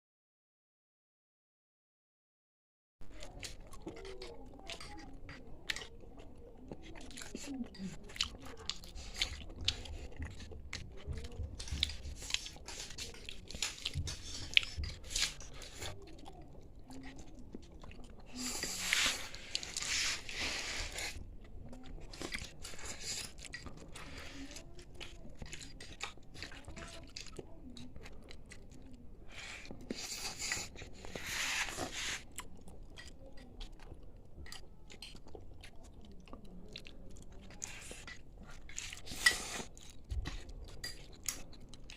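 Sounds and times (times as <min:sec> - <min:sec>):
mouth chewing rice: 0:03.0 - 0:41.9.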